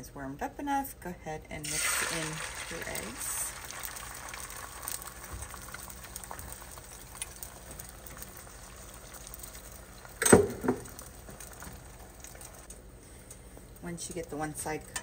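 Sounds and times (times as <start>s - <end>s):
eggs sizzling in a pan: 1.6s - 15.0s.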